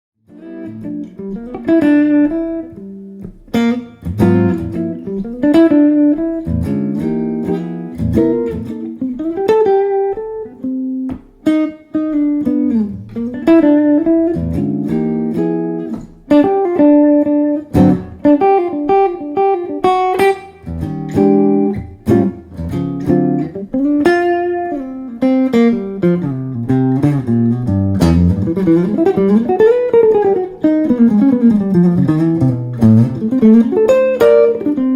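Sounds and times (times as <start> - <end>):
solo jazz guitar: 0.2 - 34.9.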